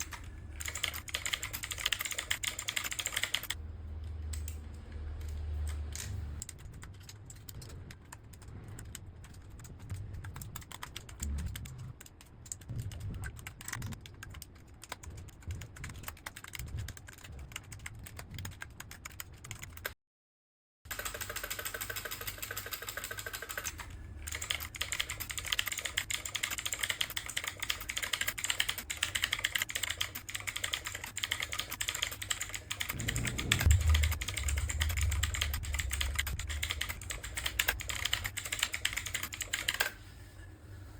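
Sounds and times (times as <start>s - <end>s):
mechanical keyboard typing: 0.0s - 3.6s, 4.3s - 20.0s, 20.9s - 40.0s.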